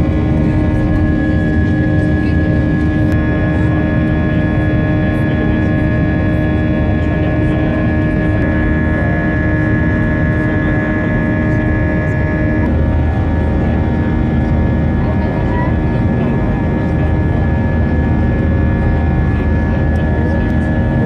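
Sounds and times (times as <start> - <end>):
airliner cabin engine rumble: 0.0 - 21.0
whining engine tones: 0.0 - 21.0.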